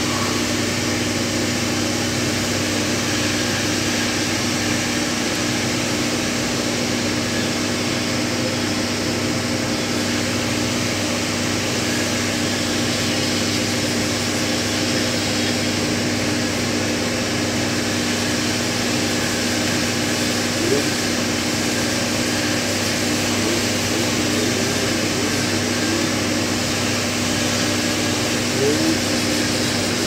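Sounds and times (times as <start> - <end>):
machine hum: 0.0 - 30.0
noisy background: 0.0 - 30.0.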